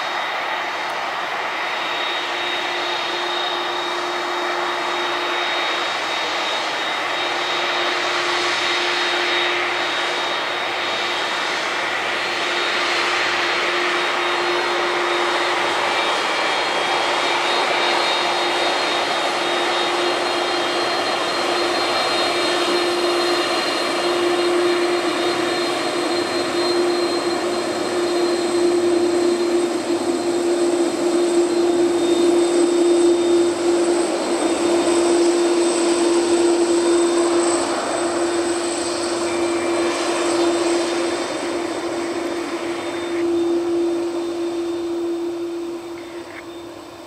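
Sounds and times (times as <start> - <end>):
jet engines whining: 0.0 - 47.0.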